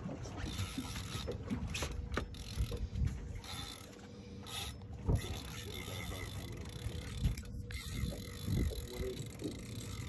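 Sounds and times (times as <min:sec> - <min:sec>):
fishing reel clicking whir: 0:00.4 - 0:10.0.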